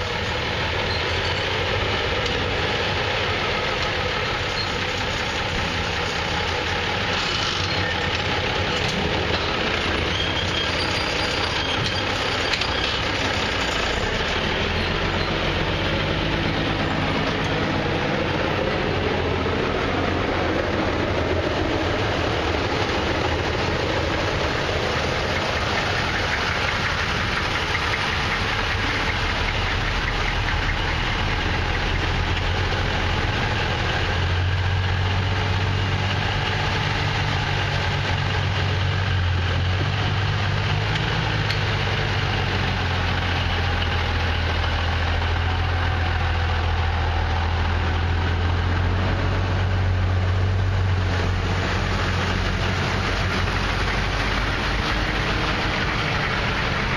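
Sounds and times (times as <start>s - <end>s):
diesel trucks driving past: 0.0s - 56.9s
low steady engine hum: 0.0s - 56.9s.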